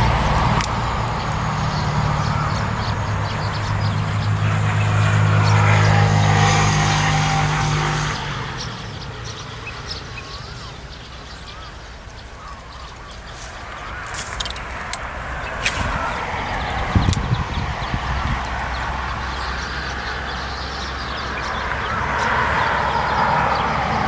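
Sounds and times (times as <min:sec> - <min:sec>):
passing vehicle engine: 0:00.0 - 0:24.0.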